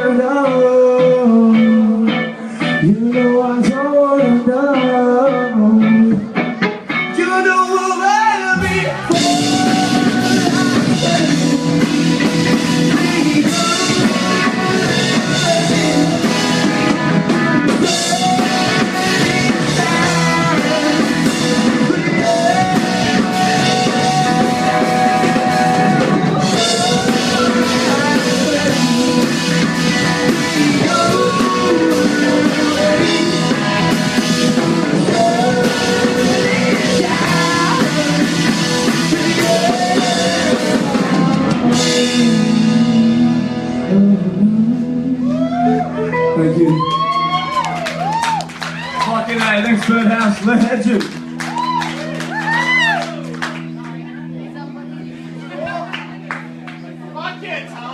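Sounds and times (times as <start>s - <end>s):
bass: 0.0s - 57.9s
electric guitars: 0.0s - 57.9s
drum kit: 5.8s - 45.7s, 46.8s - 53.7s.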